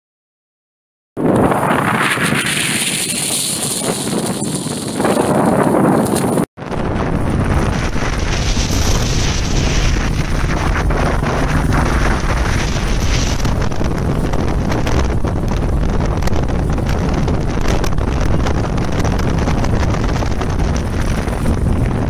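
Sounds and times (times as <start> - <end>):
wind buffeting microphone: 1.2 - 22.0
motorcycle engine running: 2.9 - 22.0.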